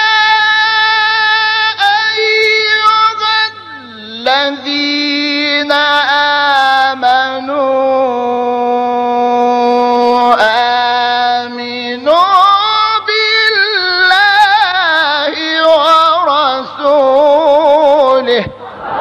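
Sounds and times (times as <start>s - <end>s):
person chanting melodic recitation: 0.0s - 18.6s.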